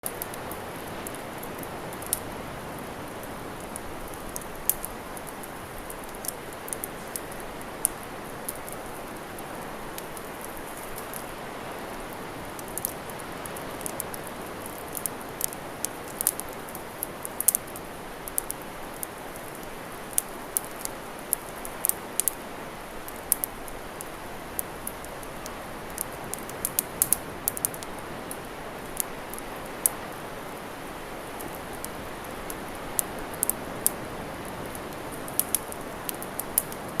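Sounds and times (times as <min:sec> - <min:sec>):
campfire crackling and popping: 0:00.0 - 0:37.0
sea waves: 0:00.2 - 0:37.0.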